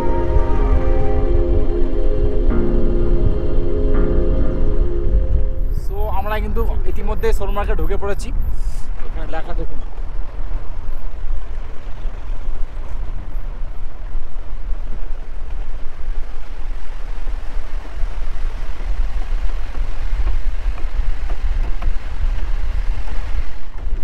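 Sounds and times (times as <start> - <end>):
car road and engine noise: 0.0 - 24.0
wind buffeting microphone: 0.0 - 24.0.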